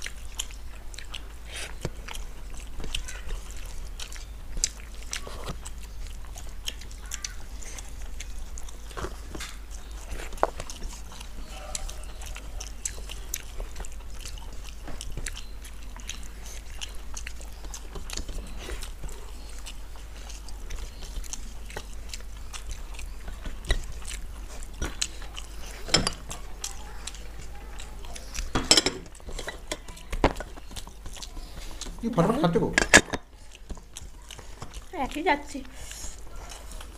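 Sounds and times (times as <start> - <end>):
chewing: 0.0 - 36.9.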